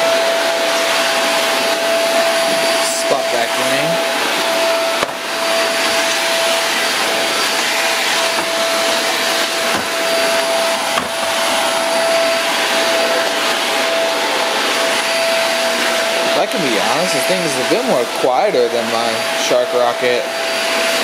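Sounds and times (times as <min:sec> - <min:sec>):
stick vacuum running: 0:00.0 - 0:21.0.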